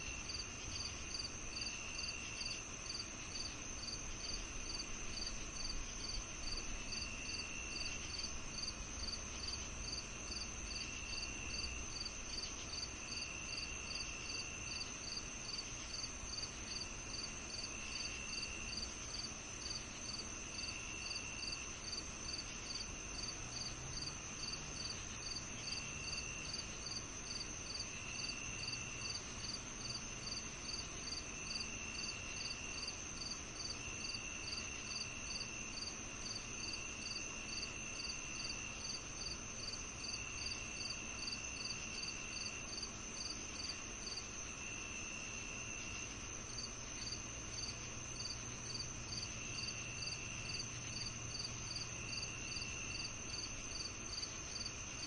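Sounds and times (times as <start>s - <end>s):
cricket chirps: 0.0s - 55.0s
high insect trill: 0.0s - 55.0s
lower insect trill: 0.0s - 55.0s.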